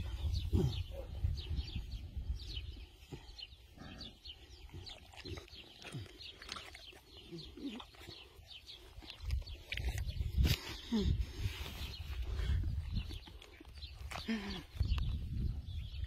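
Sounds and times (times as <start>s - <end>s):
small birds twittering: 0.0s - 16.0s.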